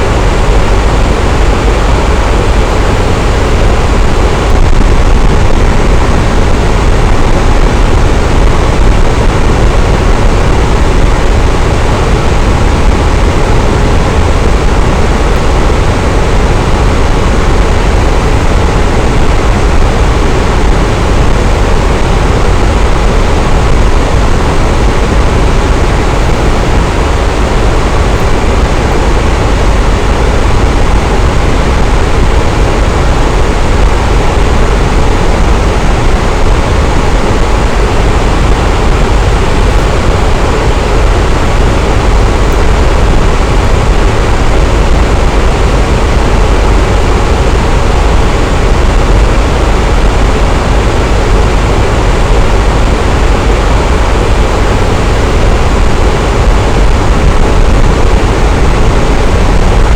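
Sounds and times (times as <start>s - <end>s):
fan running: 0.0s - 59.9s.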